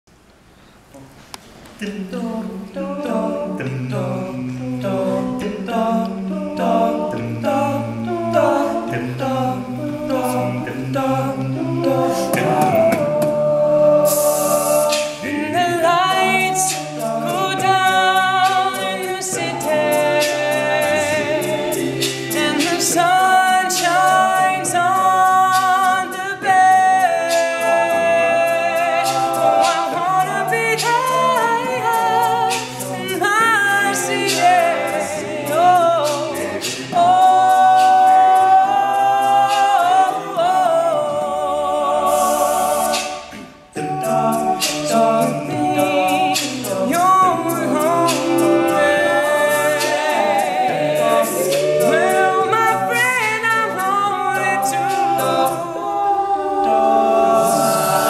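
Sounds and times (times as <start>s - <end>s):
male a cappella group singing: 1.8s - 58.0s.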